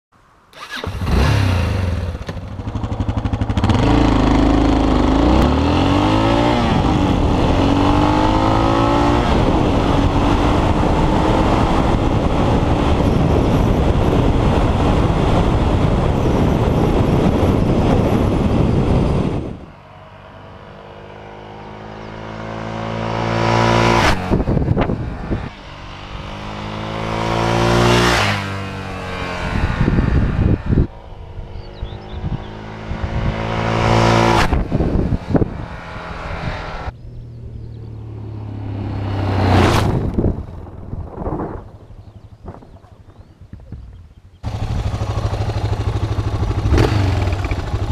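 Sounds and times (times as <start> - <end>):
motorcycle approaching: 0.5 - 47.9
wind rush: 0.6 - 20.4, 21.1 - 47.9
motorcycle engine accelerating: 0.6 - 47.9.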